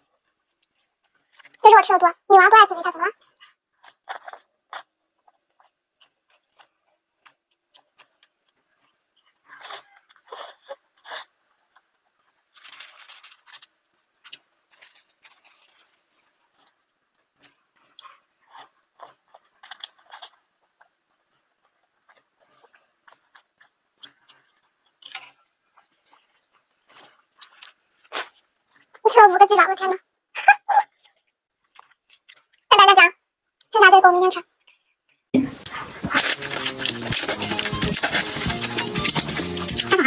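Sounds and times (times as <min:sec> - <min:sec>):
person chewing with wet smacks: 0:03.2 - 0:29.0, 0:30.9 - 0:32.7, 0:34.6 - 0:40.0.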